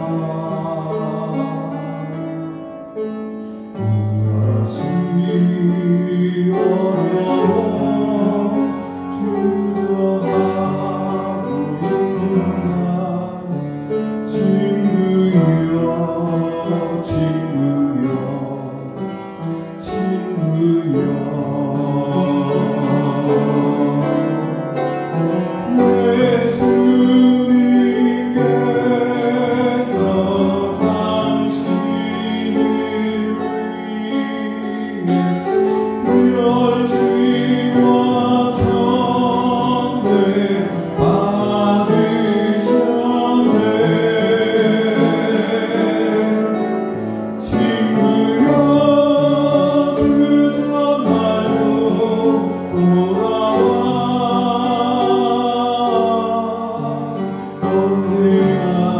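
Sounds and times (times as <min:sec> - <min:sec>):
man singing: 0:00.0 - 0:58.9
upright piano: 0:00.0 - 0:58.9.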